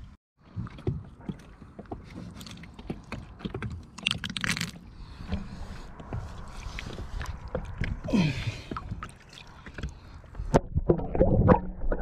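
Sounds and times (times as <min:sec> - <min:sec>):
water slopping against hull: 0:00.5 - 0:12.0.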